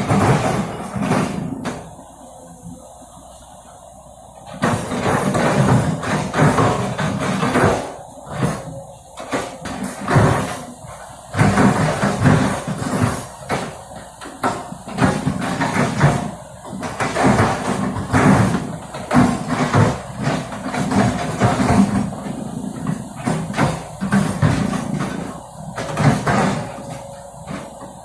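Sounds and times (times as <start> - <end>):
knocks and scraping: 0.0 - 2.0, 4.5 - 28.0
heavy machinery engine: 0.0 - 28.0.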